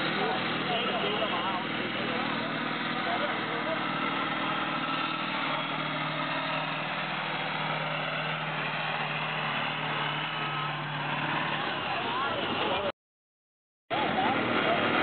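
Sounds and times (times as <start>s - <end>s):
tractor diesel engine under load: 0.0s - 13.0s, 13.9s - 15.0s.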